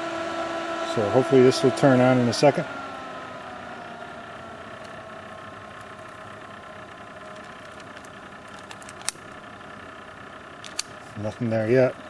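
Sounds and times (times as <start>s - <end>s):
blower fan humming: 0.0s - 12.0s.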